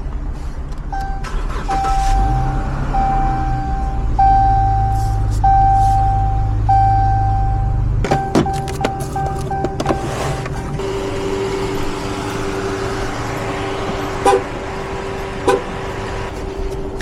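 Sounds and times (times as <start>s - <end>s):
car warning chime beeping: 0.9s - 17.0s
steady electronic tone: 1.0s - 17.0s.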